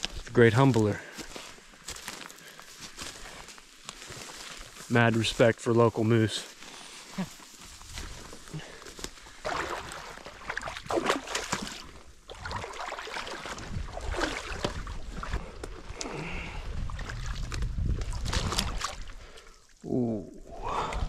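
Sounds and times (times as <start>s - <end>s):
boots wading through shallow water: 0.9s - 4.9s, 6.5s - 19.8s.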